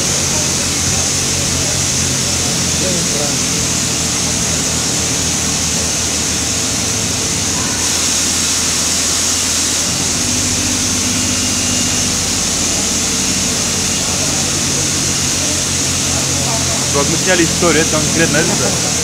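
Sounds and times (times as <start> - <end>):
drilling machinery drone: 0.0 - 19.0.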